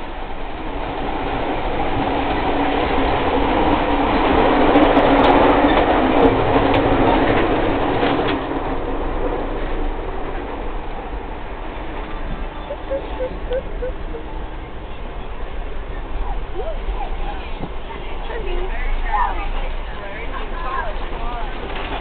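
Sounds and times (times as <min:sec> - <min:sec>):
train rumble and rattle: 0:00.0 - 0:22.0.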